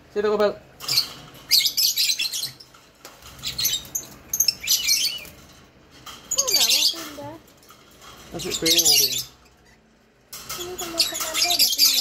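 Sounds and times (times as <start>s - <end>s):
lovebirds chirping: 0.2s - 12.0s.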